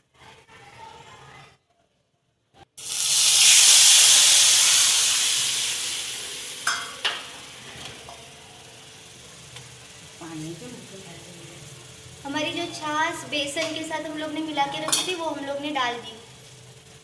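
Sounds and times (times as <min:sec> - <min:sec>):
hot oil sizzling: 0:02.8 - 0:17.0.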